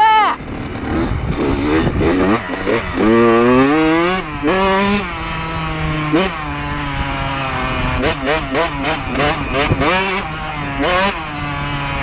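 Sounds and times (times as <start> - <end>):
dirt bike engine revving: 0.3 - 12.0.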